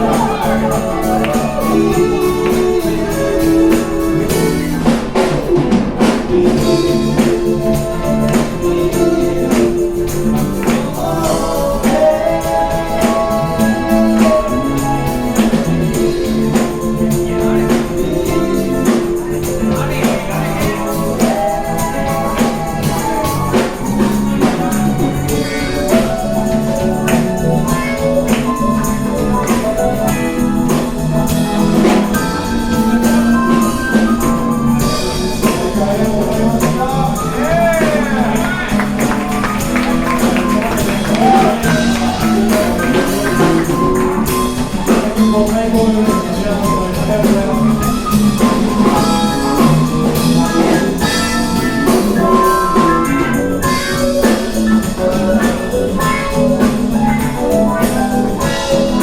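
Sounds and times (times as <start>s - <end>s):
live band music: 0.0s - 59.0s
percussion beat: 0.0s - 59.0s
person singing: 0.0s - 59.0s.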